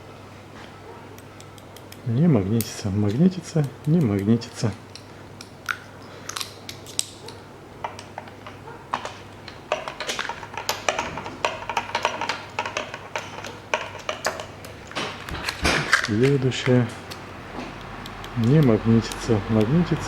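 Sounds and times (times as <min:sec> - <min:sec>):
metallic clicks and taps: 0:01.2 - 0:04.3, 0:04.9 - 0:20.0.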